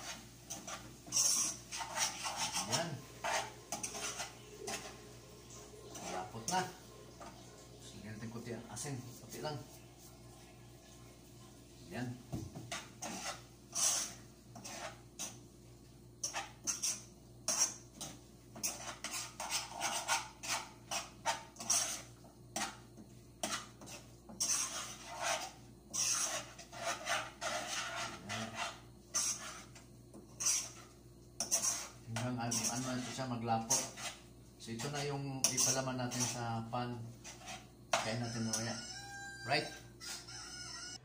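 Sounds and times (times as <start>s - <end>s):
spoon scraping a pot: 0.0s - 5.1s, 5.9s - 7.4s, 12.6s - 15.4s, 16.2s - 40.7s.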